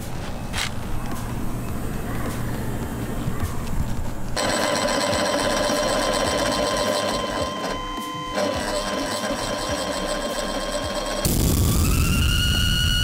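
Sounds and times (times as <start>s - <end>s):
machine rotor whining: 0.0s - 11.4s.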